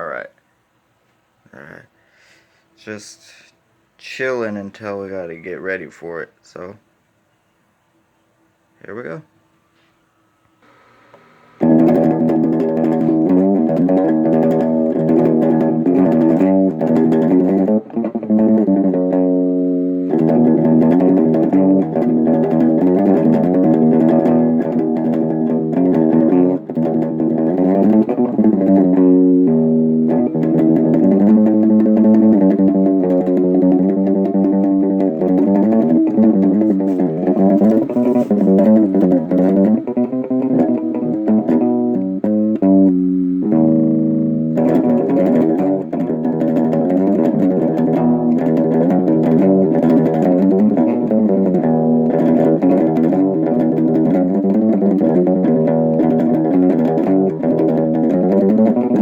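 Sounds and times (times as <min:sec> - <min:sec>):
plucked guitar music with bass: 0:11.6 - 0:59.0.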